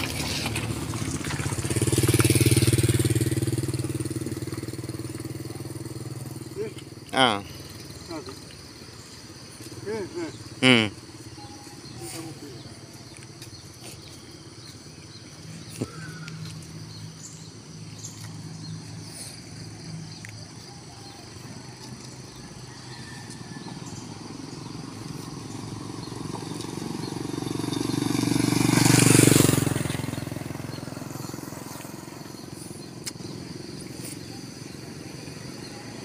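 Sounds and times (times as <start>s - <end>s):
motorcycle passing by: 0.0s - 36.0s.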